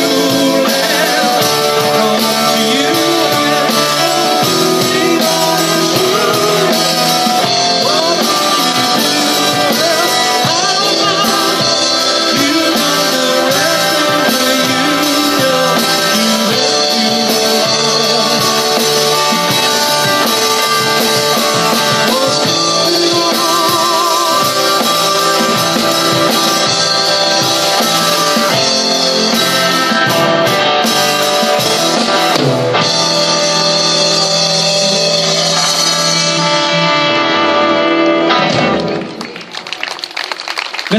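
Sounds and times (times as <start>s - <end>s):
person singing: 0.0s - 38.5s
drum kit: 0.0s - 39.5s
electric guitars: 0.0s - 40.9s.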